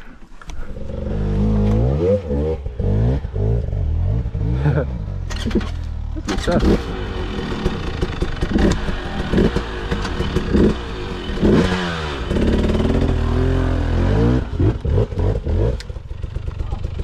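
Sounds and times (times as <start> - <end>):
dirt bike engine revving: 0.8 - 16.8.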